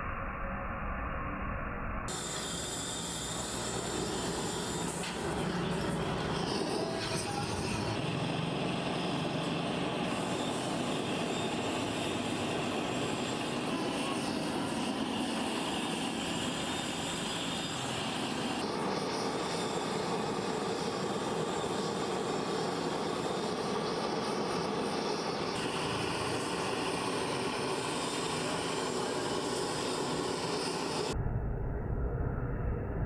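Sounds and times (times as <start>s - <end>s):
machinery running: 2.1s - 31.2s.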